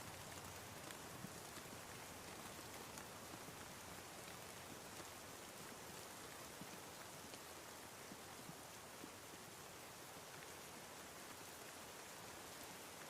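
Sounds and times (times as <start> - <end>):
quiet rain falling: 0.0 - 13.0.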